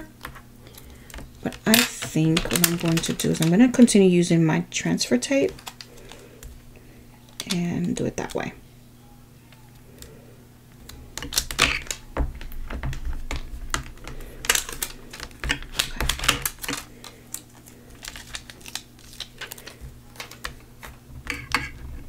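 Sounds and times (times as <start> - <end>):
tape and vinyl crackling: 0.0 - 22.0.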